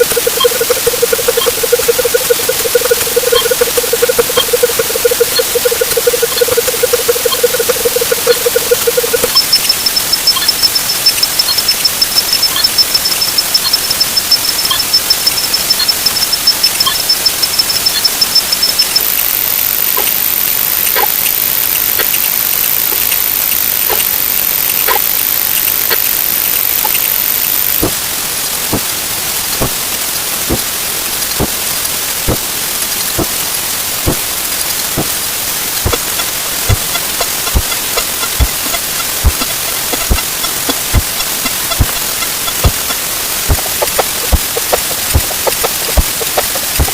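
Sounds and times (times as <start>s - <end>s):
high rapid beeping: 0.0s - 27.9s, 35.8s - 46.9s
very high steady whine: 0.0s - 46.9s.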